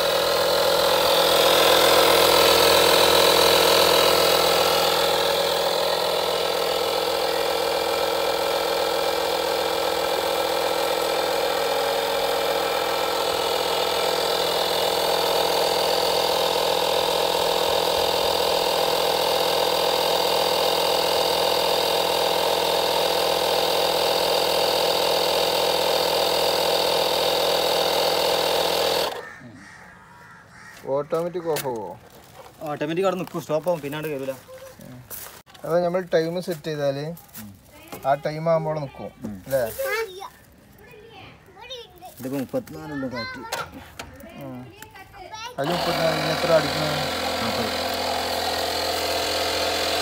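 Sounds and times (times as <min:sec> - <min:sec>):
portable air compressor running: 0:00.0 - 0:40.8, 0:42.2 - 0:50.0.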